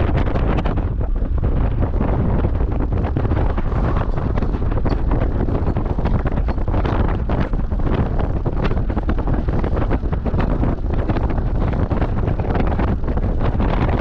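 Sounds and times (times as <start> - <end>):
low vehicle rumble: 0.0 - 14.0
wind buffeting microphone: 0.0 - 14.0.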